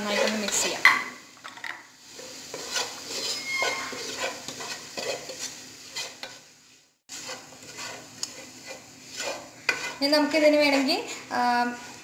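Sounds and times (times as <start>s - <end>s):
utensil scraping and knocking a pan: 0.0s - 6.4s, 7.2s - 12.0s
light sizzle of frying: 0.0s - 12.0s.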